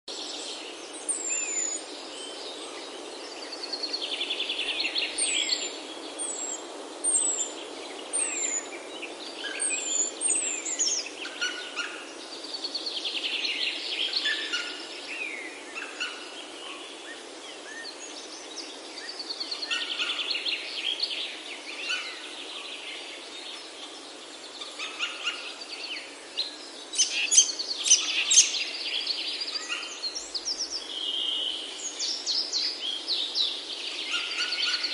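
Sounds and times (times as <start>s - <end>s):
birds singing and calling: 0.1s - 34.9s
steady background hiss: 0.1s - 34.9s.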